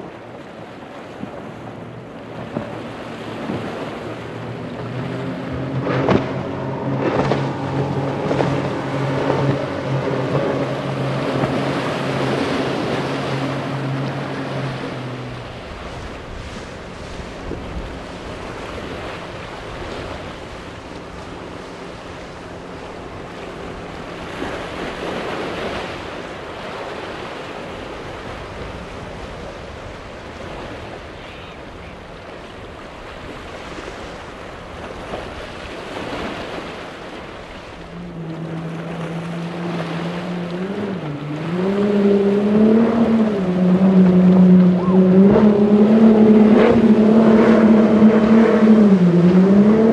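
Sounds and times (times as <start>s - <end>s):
faint outboard engine: 0.0s - 49.9s
loud boat engines: 0.0s - 49.9s
water rushing around boat hull: 0.0s - 49.9s
wind on microphone: 0.0s - 49.9s.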